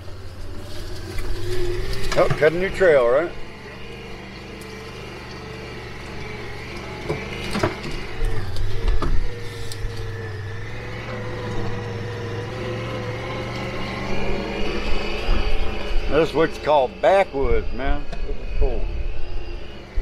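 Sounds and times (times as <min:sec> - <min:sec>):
utility vehicle engine running: 0:00.0 - 0:20.0.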